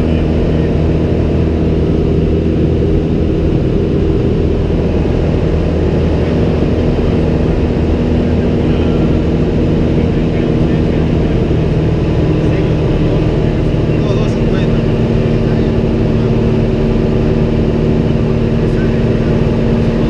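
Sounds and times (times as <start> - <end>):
light aircraft engine drone: 0.0 - 20.0.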